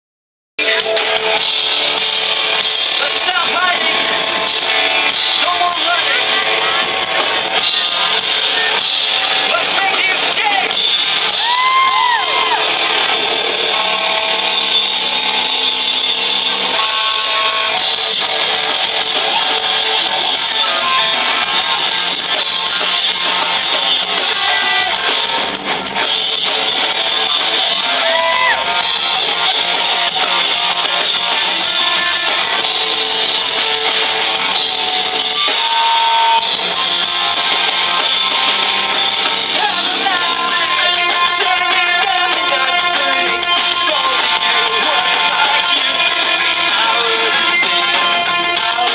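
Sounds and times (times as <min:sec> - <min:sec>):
electric guitars: 0:00.6 - 0:48.9
live rock band playing loud: 0:00.6 - 0:48.9.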